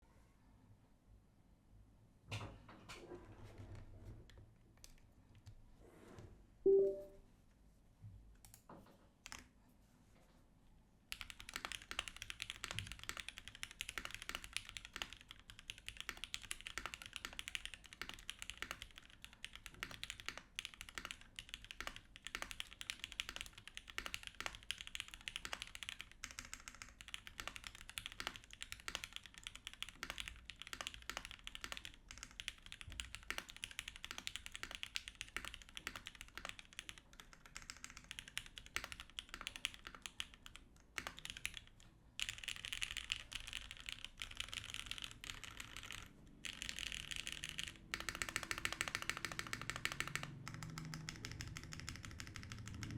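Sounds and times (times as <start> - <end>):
mechanical keyboard typing: 8.4 - 9.5, 11.1 - 52.9.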